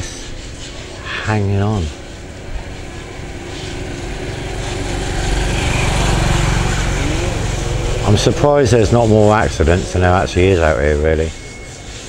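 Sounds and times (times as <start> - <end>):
passing vehicle engine rumble: 1.6 - 11.9.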